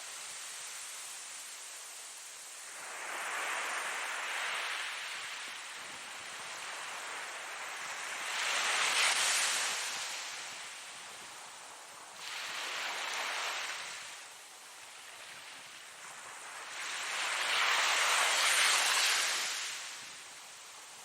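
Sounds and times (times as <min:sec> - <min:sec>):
ocean waves washing in: 0:00.1 - 0:20.7.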